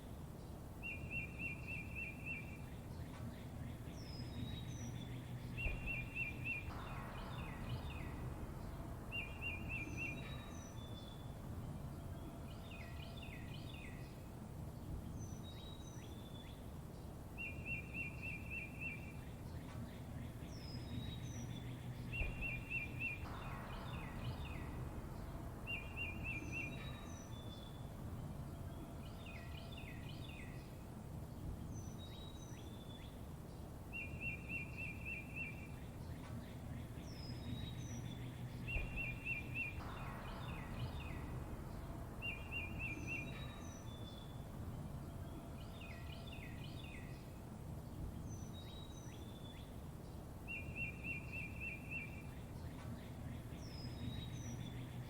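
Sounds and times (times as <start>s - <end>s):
birds chirping: 0.0s - 55.0s
steady low rumble: 2.1s - 17.4s, 18.7s - 55.0s.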